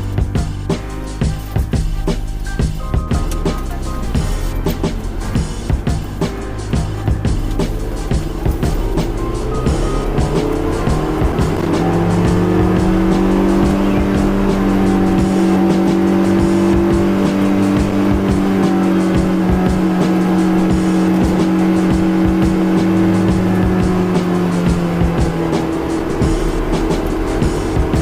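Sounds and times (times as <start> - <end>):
car engine running: 0.0 - 28.0
music playing: 0.0 - 28.0.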